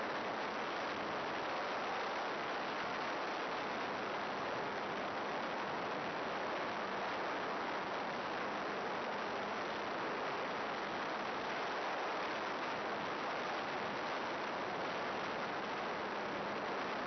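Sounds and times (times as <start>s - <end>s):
static hiss: 0.0s - 17.0s.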